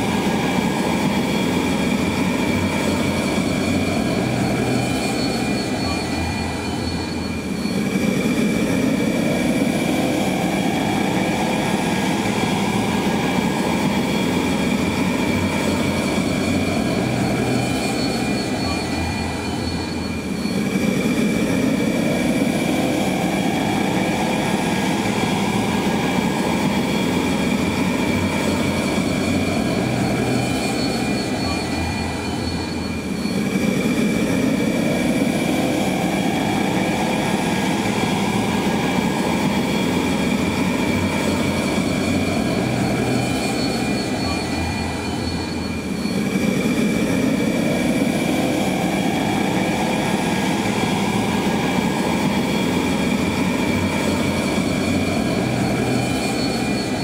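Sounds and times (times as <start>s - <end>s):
jet engine whine and rumble: 0.0s - 57.0s.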